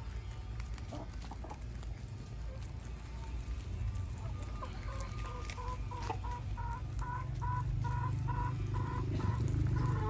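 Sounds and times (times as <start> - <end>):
chicken clucking: 0.0 - 10.0
low steady hum: 0.0 - 10.0.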